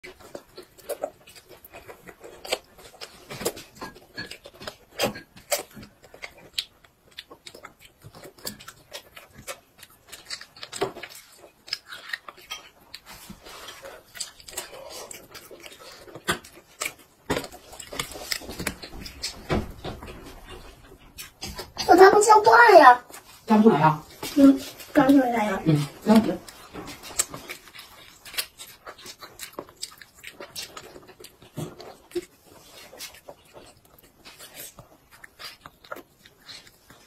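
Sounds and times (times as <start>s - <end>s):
child chewing: 0.0s - 37.0s.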